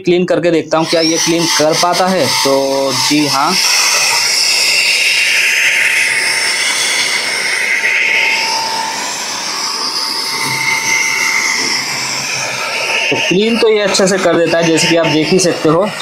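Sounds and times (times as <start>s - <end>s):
handheld vacuum cleaner whine: 0.7s - 16.0s.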